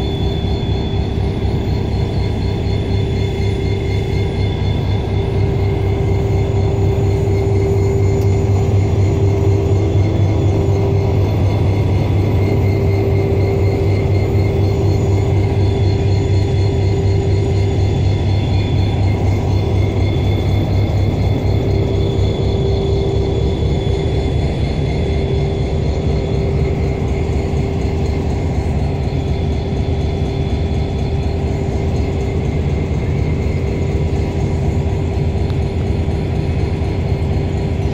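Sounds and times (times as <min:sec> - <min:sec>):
locomotive engine drone: 0:00.0 - 0:37.9
steady whine: 0:00.0 - 0:37.9.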